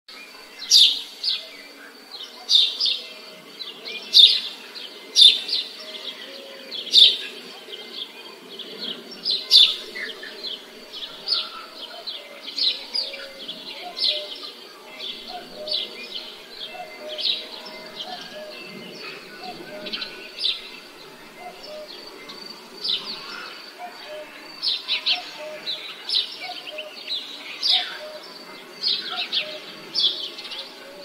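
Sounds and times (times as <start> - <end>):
faint low background murmur: 0.1 - 31.0
bird chirping: 0.2 - 31.0.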